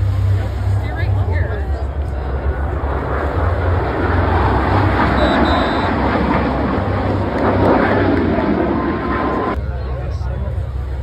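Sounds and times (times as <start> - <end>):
jet flying past: 0.0 - 9.6.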